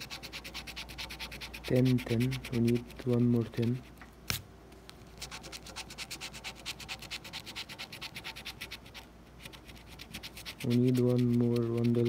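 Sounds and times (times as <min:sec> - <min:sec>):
coin scratching lottery ticket: 0:00.0 - 0:03.9, 0:05.2 - 0:12.0.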